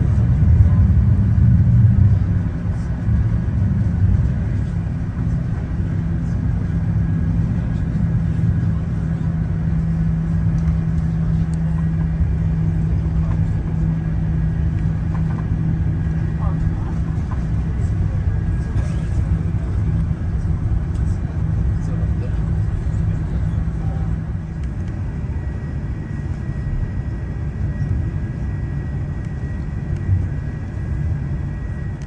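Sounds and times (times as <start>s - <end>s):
aircraft cabin rumble and hum: 0.0s - 32.0s.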